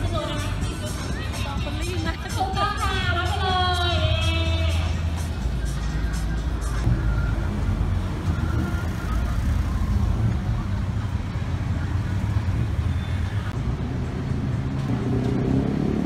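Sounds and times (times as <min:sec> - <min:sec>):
rumble of car engines in traffic: 0:00.0 - 0:16.0.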